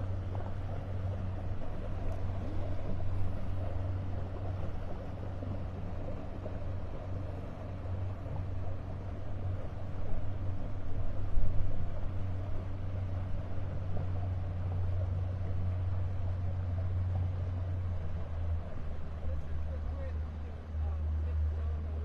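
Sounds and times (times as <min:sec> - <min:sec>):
boat motor running: 0:00.0 - 0:22.0
water noise: 0:00.0 - 0:22.0.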